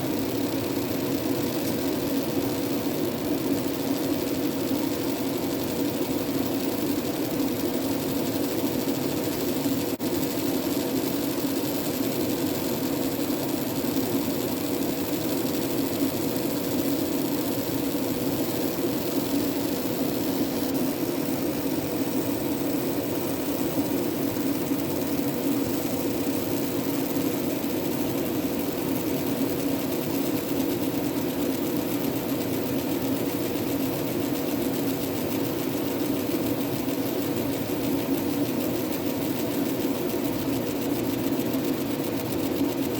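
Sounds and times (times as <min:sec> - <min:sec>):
laser engraver humming: 0:00.0 - 0:42.9.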